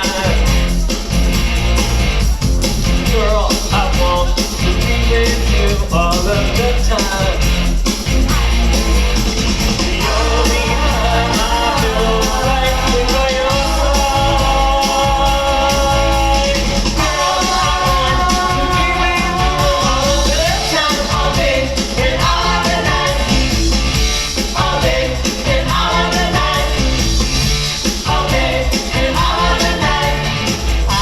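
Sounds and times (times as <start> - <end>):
rock and roll song with singer: 0.0 - 31.0.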